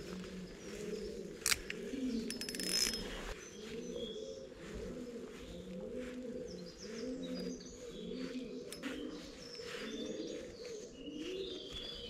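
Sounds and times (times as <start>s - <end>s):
pigeon cooing: 0.0s - 12.0s
small birds chirping: 0.0s - 12.0s.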